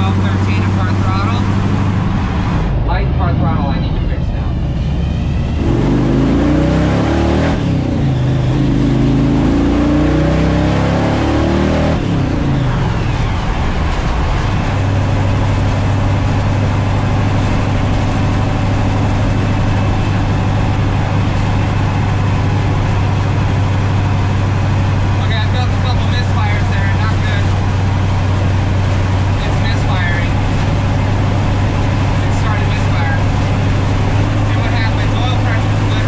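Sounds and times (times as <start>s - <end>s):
supercharged car engine accelerating: 0.0s - 36.0s.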